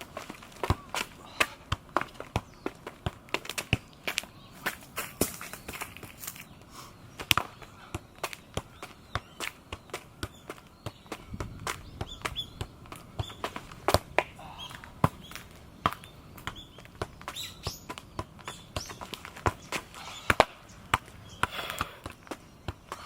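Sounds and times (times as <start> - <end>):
football taps against feet: 0.2 - 6.4, 7.2 - 23.0.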